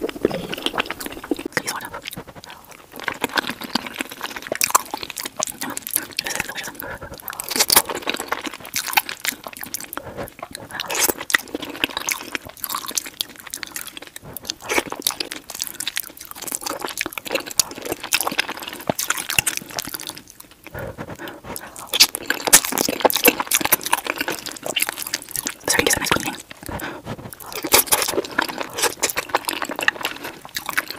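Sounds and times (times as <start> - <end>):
close chewing: 0.0 - 30.9
wet mouth clicks: 0.0 - 30.9.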